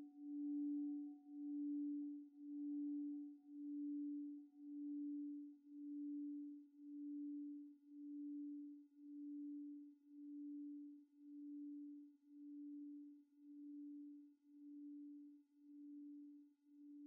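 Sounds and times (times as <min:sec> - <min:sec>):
crystal singing bowl tone: 0:00.0 - 0:17.0.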